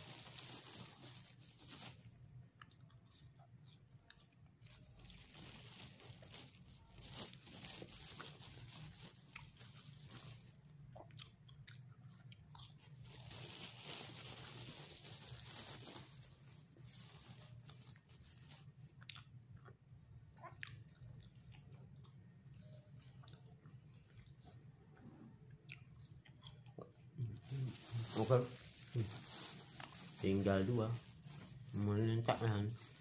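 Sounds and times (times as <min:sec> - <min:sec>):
crunching of crisp pastries: 0:00.0 - 0:33.0.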